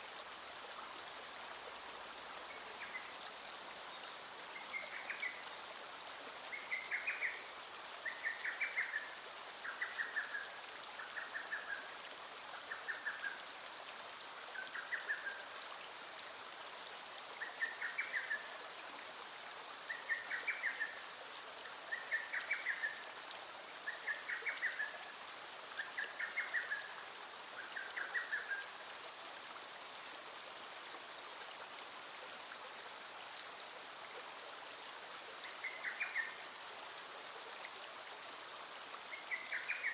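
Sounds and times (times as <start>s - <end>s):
stream water running over stones: 0.0s - 39.9s.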